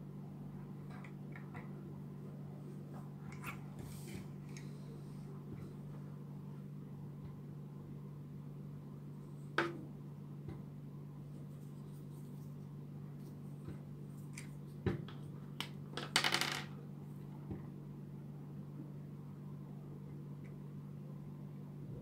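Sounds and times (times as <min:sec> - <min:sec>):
steady low hum: 0:00.0 - 0:16.0, 0:16.7 - 0:22.0.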